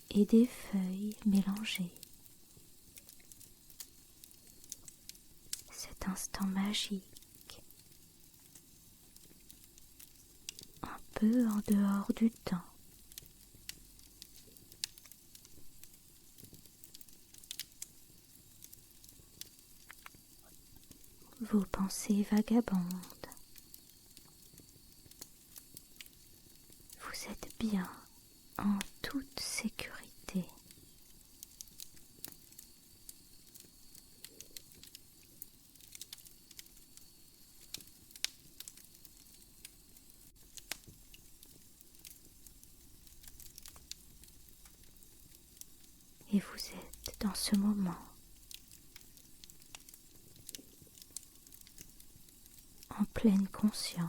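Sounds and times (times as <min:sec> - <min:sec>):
fire pops and snaps: 0:00.0 - 0:54.0
low steady hiss: 0:00.0 - 0:54.0
wood fire crackling: 0:00.0 - 0:54.0.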